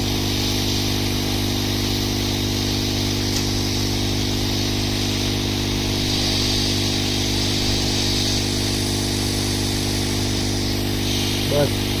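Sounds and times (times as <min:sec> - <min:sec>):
electric motor humming: 0:00.0 - 0:12.0
hiss of moving air: 0:00.0 - 0:12.0.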